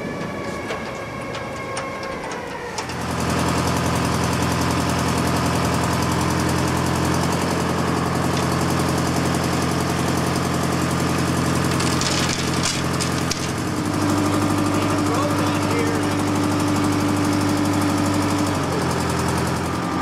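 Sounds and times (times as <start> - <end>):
crane engine idling: 0.0 - 20.0.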